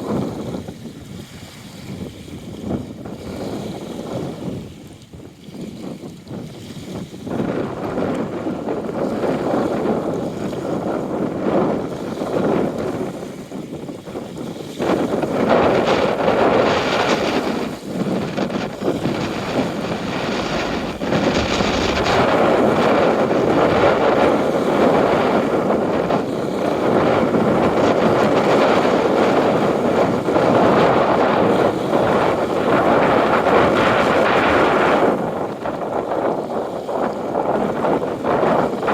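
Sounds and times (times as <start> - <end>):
water lapping at shore: 0.0 - 38.9
wind buffeting microphone: 0.0 - 38.9.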